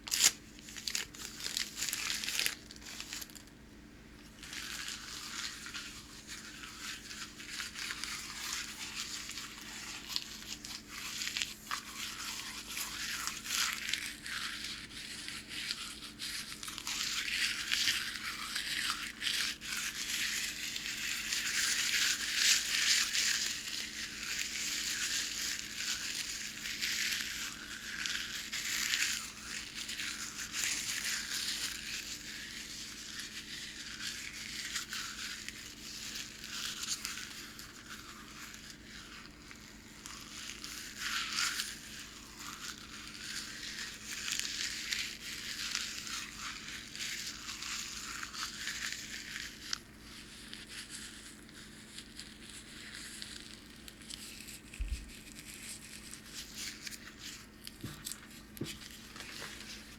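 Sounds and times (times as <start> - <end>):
hands crinkling packing paper: 0.0 - 3.6, 4.2 - 59.9.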